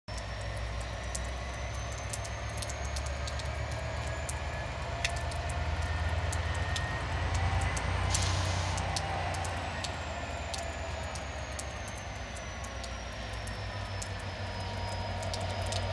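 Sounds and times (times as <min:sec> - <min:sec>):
faint rising whine: 0:00.1 - 0:15.9
diesel locomotive rumbling: 0:00.2 - 0:15.9.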